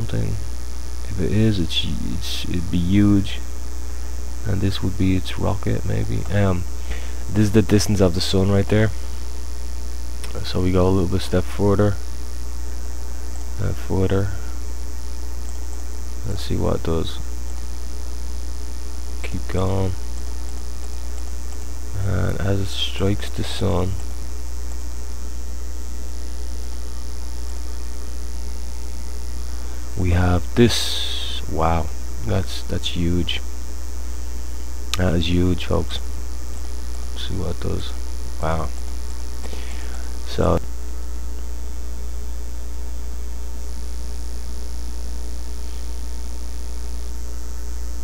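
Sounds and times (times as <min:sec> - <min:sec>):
electrical mains hum: 0:00.0 - 0:48.0
high hiss: 0:00.0 - 0:48.0.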